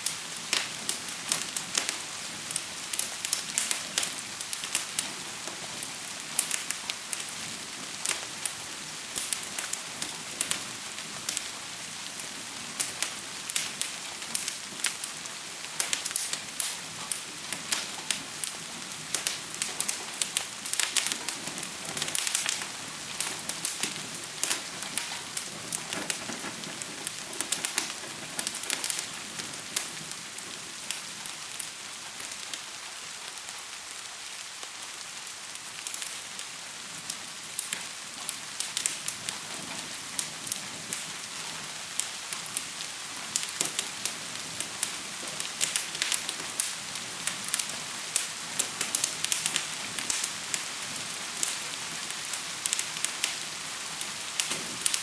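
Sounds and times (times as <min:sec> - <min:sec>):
fire crackling and popping: 0:00.0 - 0:55.0
gentle rain hiss: 0:00.0 - 0:55.0.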